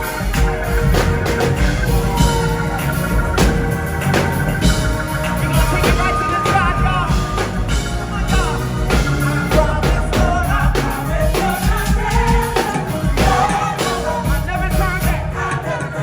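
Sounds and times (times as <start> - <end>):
drums beating: 0.0 - 16.0
gospel choir singing: 0.0 - 16.0
live band: 0.0 - 16.0.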